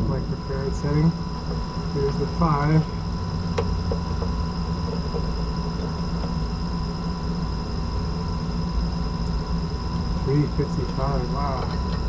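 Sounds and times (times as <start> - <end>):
constant hum: 0.0 - 12.0
steady low rumble: 0.0 - 12.0.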